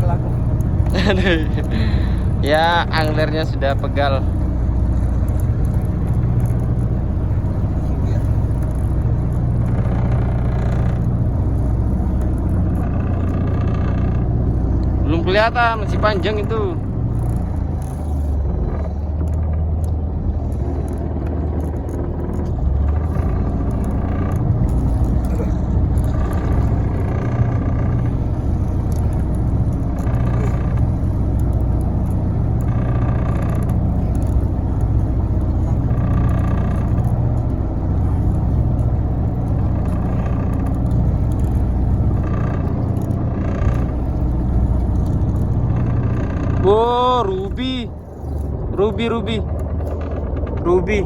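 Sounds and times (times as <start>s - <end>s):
boat engine idling: 0.0s - 51.0s.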